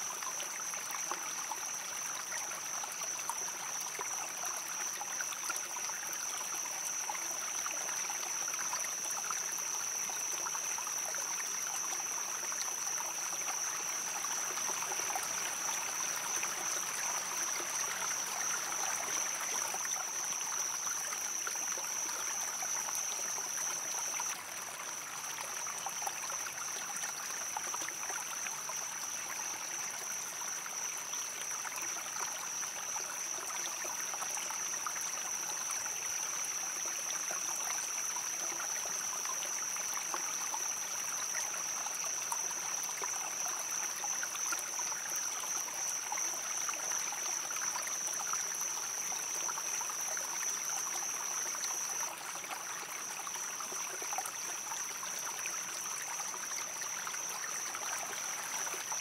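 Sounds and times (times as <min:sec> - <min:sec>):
river water babbling: 0:00.0 - 0:59.0.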